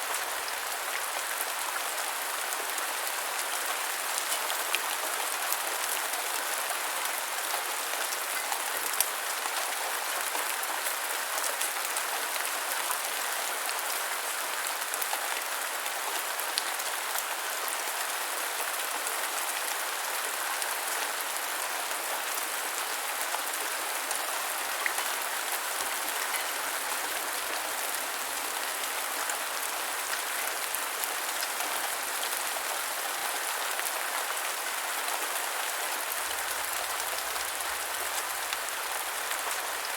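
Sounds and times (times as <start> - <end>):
gentle rainfall: 0.0 - 39.9.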